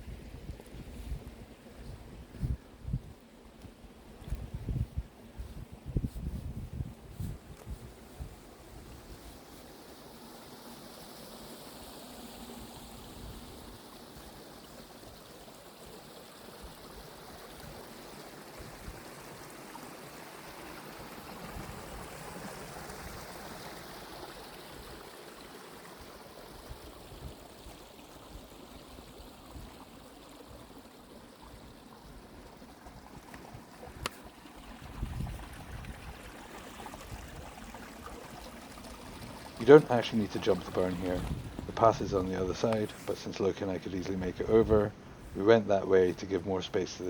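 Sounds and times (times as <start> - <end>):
stream rushing over stones: 7.6 - 47.0.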